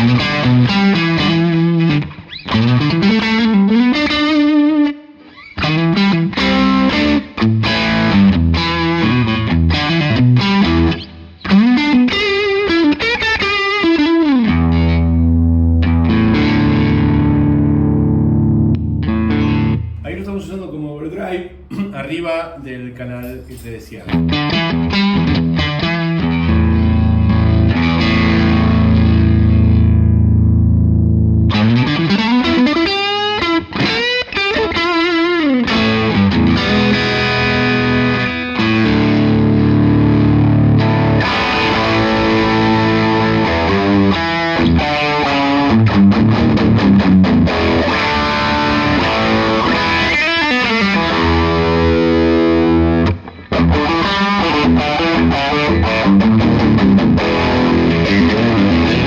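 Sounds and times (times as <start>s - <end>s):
overdriven electric guitar: 0.0s - 20.1s, 24.1s - 59.0s.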